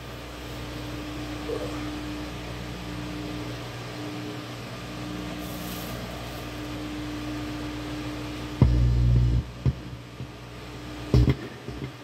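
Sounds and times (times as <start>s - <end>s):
amplifier hum and hiss: 0.0s - 12.0s.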